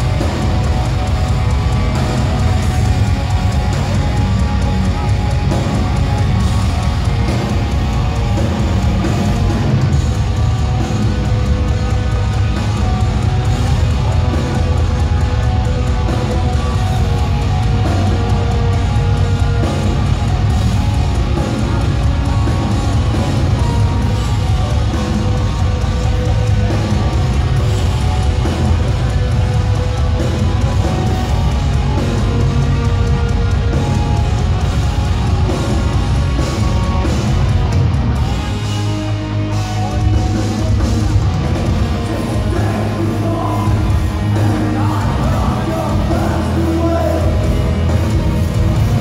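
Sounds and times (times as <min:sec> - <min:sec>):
metal band playing live: 0:00.0 - 0:49.0.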